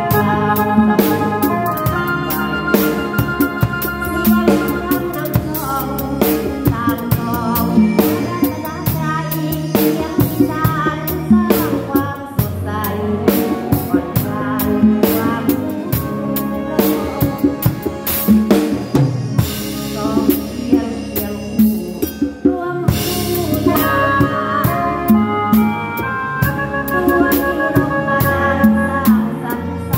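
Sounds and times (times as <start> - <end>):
band playing: 0.0 - 29.9
drum kit playing: 0.0 - 29.9.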